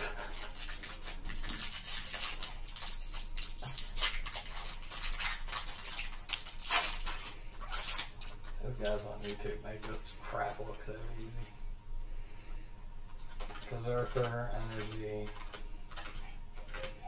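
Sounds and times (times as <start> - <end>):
foil wrapper crinkling and tearing: 0.0 - 11.4, 13.1 - 17.0.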